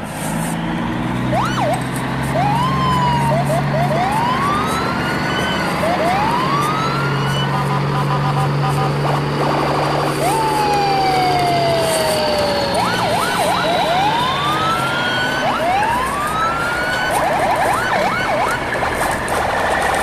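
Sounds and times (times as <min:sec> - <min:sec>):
siren-like whistling tones: 0:01.2 - 0:19.0.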